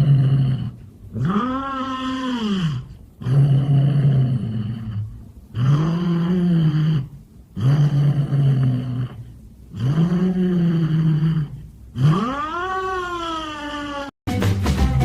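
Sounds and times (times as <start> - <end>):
cat growling yowls: 0.0 - 9.2, 9.8 - 14.1.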